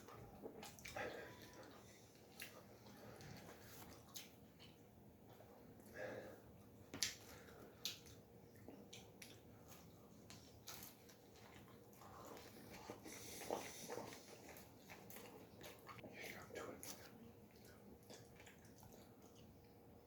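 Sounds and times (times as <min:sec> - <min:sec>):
pizza being bitten and chewed: 0:00.0 - 0:20.0.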